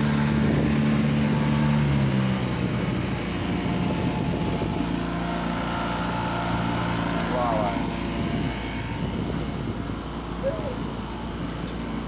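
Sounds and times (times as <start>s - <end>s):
motorboat engine running: 0.0s - 12.0s
water rushing from hull: 0.0s - 12.0s.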